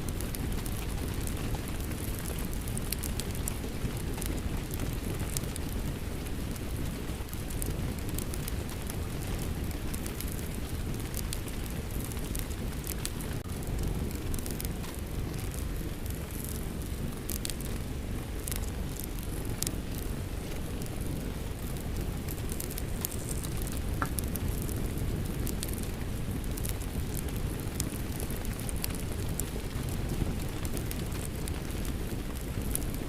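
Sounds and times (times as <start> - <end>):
rain rumbling: 0.0 - 33.0
wood fire crackling and popping: 0.0 - 33.0.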